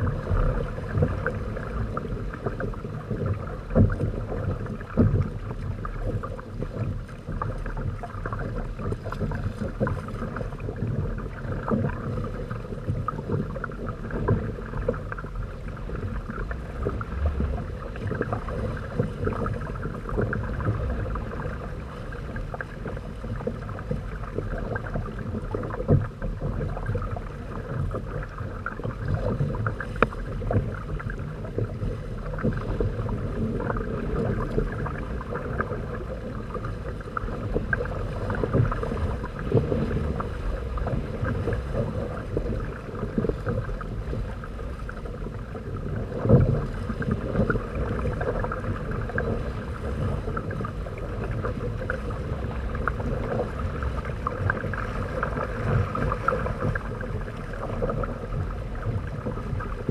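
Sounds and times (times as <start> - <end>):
water splashing against hulls: 0.0 - 59.9
wind rumble on microphone: 0.0 - 59.9.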